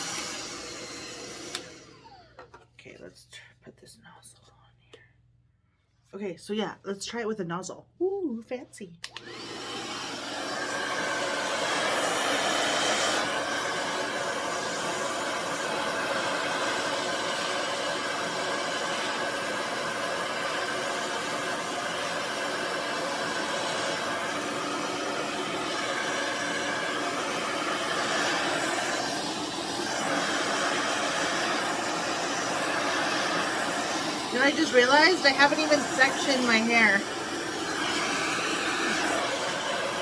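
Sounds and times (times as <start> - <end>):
hair dryer running: 0.0 - 2.7, 9.0 - 40.0.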